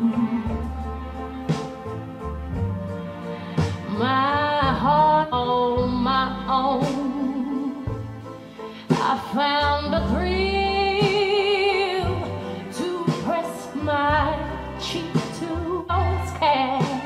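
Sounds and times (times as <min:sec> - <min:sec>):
pop song with female singer: 0:00.0 - 0:01.0, 0:03.6 - 0:17.0
steady bass line: 0:00.0 - 0:08.4, 0:09.2 - 0:17.0.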